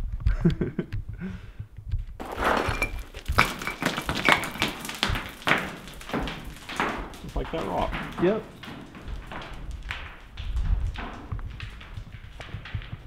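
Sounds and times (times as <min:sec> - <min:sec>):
rock clattering down a shaft: 0:02.2 - 0:13.0.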